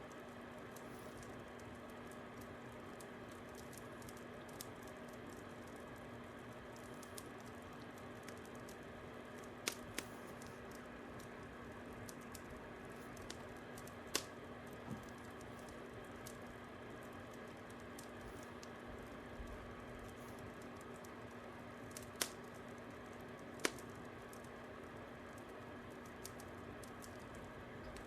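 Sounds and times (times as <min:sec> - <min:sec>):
fire crackling: 0:00.0 - 0:28.0
soft steady hiss: 0:00.0 - 0:28.0.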